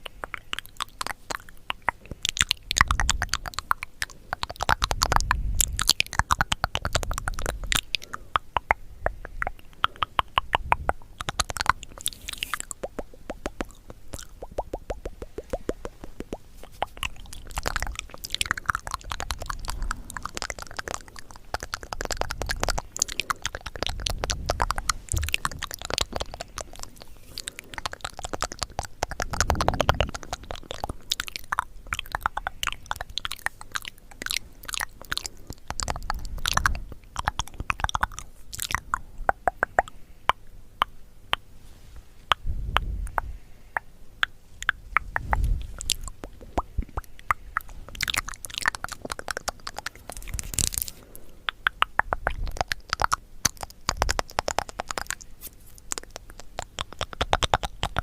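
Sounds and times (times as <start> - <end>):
crunchy chewing and biting: 0.0 - 40.0, 42.3 - 58.0.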